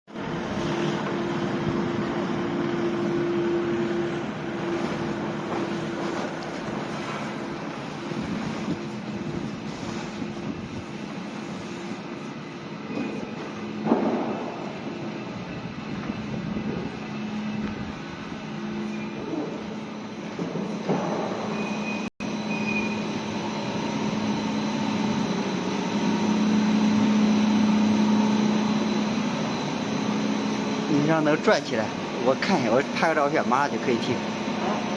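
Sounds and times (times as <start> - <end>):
steam boiler machinery noise: 0.1 - 34.9.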